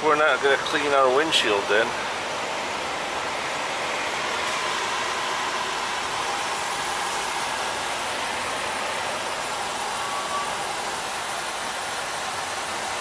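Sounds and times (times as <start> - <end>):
truck cab hiss: 0.6 - 13.0.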